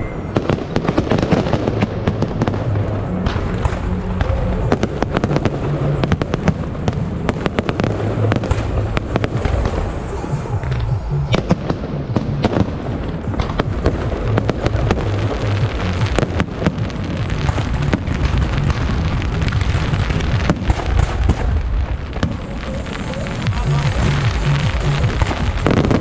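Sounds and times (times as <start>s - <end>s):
fireworks bangs and crackles: 0.0s - 26.0s
low rumble: 0.0s - 26.0s.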